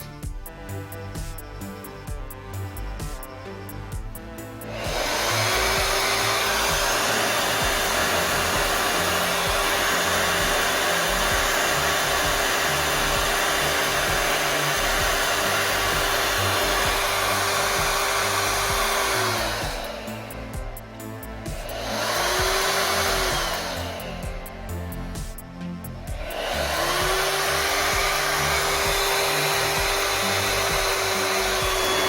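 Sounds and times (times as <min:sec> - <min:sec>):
hair dryer motor whine: 0:00.0 - 0:02.3, 0:03.9 - 0:32.0
rush of air: 0:04.6 - 0:32.0.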